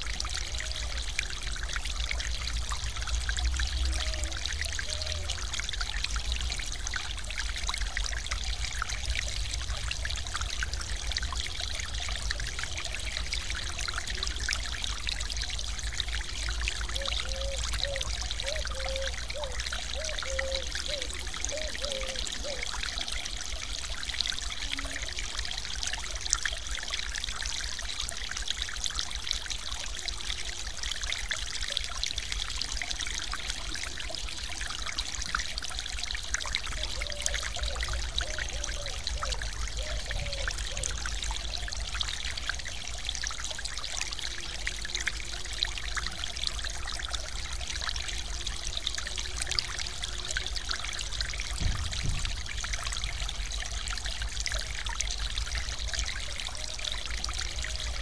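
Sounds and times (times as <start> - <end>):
water pouring over weir: 0.0 - 58.0.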